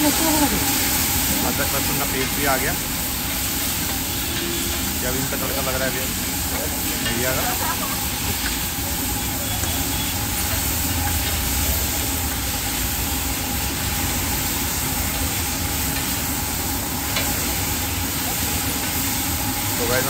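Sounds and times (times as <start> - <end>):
spices sizzling in a pan: 0.0 - 20.0.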